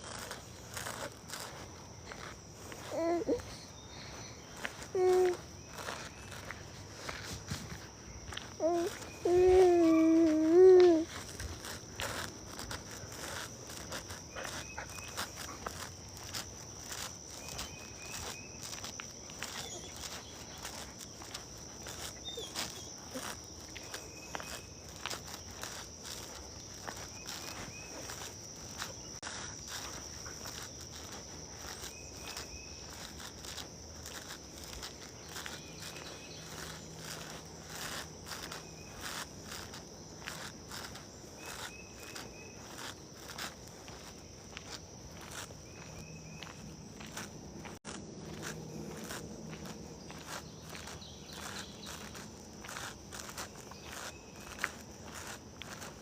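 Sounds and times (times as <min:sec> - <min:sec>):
footsteps walking: 0:00.0 - 0:56.0
high-pitched insect chorus: 0:00.0 - 0:56.0.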